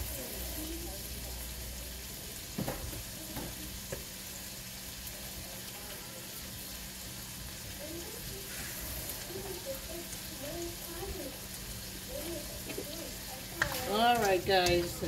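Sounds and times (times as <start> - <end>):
sausage sizzling in oil: 0.0 - 15.0.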